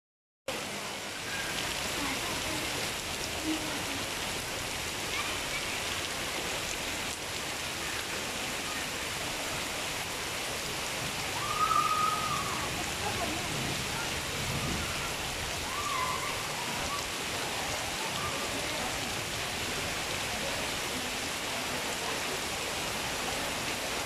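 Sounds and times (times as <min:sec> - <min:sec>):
heavy rain splashing on water: 0:00.5 - 0:24.0
rain on leaves: 0:00.5 - 0:24.0.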